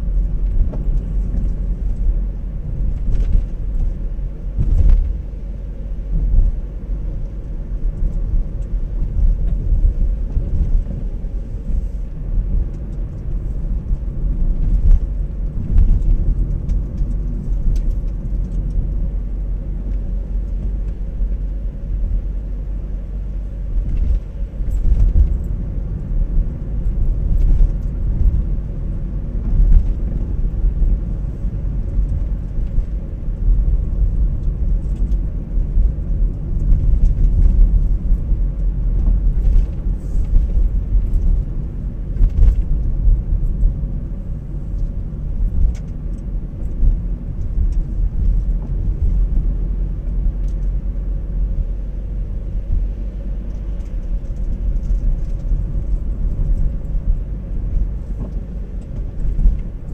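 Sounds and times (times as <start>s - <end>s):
car cabin engine and road drone: 0.0s - 59.9s.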